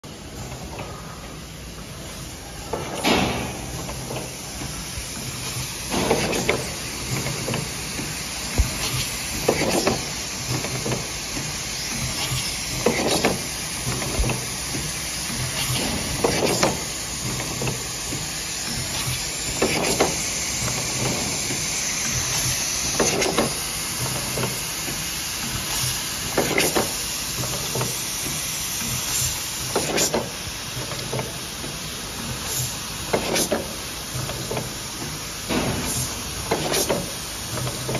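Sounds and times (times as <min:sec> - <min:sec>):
bursts of air and machine noise: 0:00.1 - 0:37.9
steady pneumatic hiss: 0:00.4 - 0:37.9.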